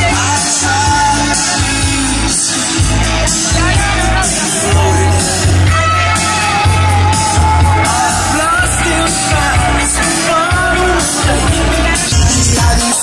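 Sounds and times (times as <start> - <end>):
heavy pulsing bass beat: 0.0 - 13.0
song with lead vocal: 0.0 - 13.0.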